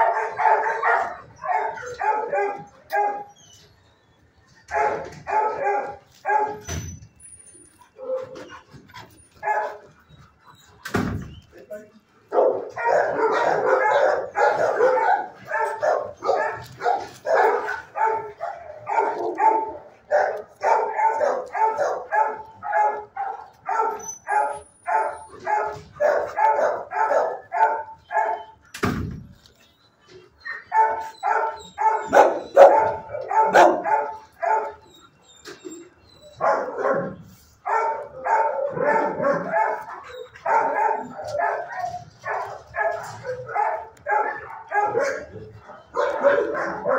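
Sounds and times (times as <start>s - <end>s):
dogs barking: 0.0s - 3.4s, 4.6s - 6.8s, 7.9s - 10.2s, 12.2s - 28.7s, 30.4s - 35.6s, 36.2s - 46.9s.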